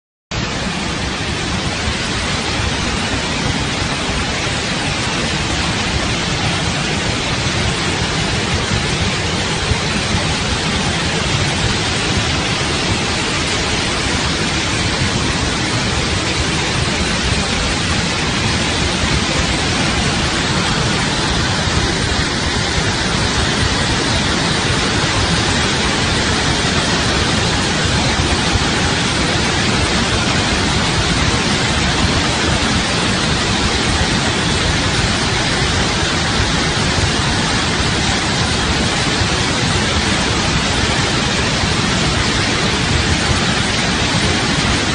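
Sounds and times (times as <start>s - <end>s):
floodwater rushing: 0.4s - 44.9s.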